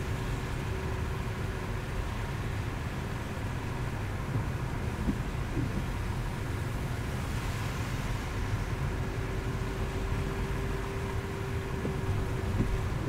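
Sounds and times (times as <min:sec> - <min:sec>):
car on wet slushy road: 0:00.0 - 0:13.0.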